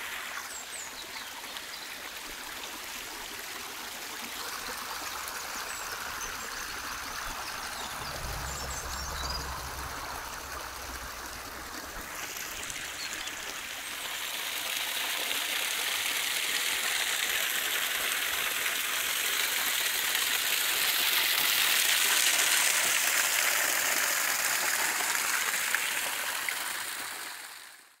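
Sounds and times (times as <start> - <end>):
small forest stream running: 0.0 - 28.0
water gushing from a pipe: 0.0 - 28.0.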